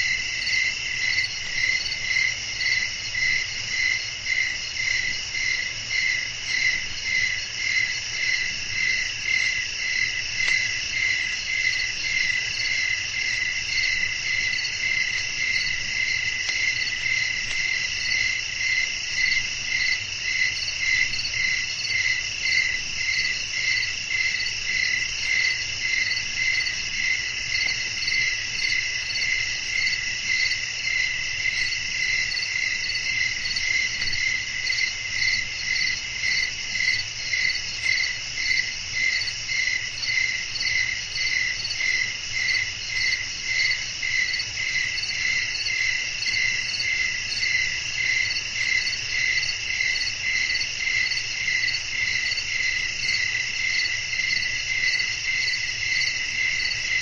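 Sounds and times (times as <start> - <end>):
crickets chirping: 0.0 - 57.0
high insect trill: 0.1 - 57.0.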